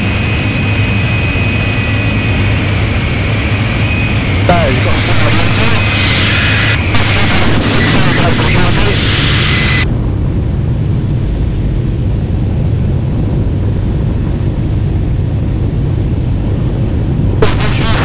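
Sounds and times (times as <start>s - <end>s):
aircraft engine low drone: 0.0s - 18.0s.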